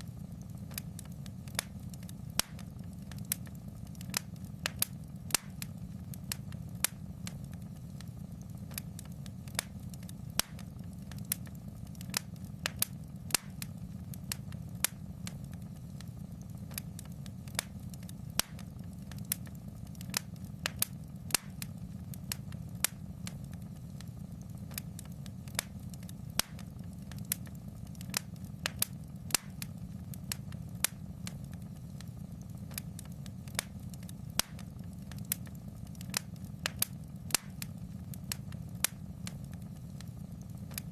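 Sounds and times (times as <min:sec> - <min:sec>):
low rumble of flames: 0:00.0 - 0:40.9
wood fire pops and snaps: 0:00.0 - 0:40.9.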